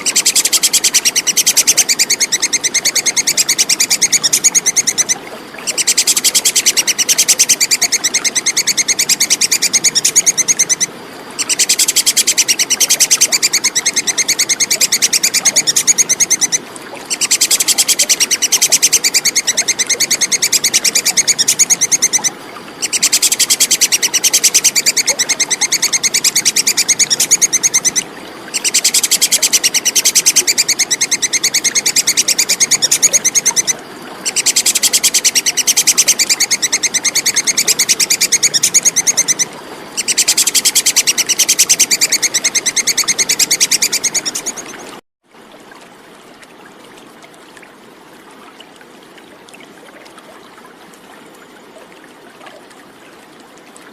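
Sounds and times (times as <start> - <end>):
squirrel chattering call: 0.0 - 44.8.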